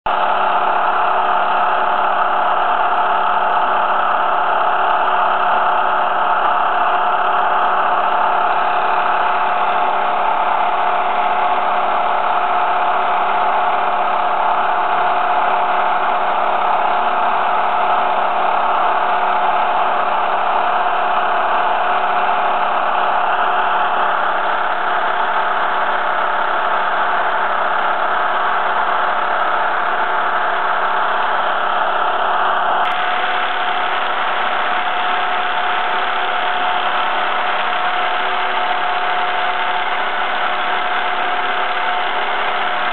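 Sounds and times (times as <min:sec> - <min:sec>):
engraving machine humming and whining: 0:00.1 - 0:42.9.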